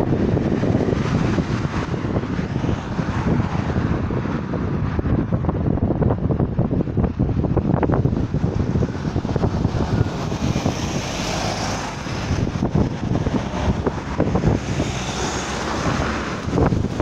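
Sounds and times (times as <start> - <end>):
road traffic passing: 0.0 - 17.0
wind buffeting microphone: 0.0 - 17.0.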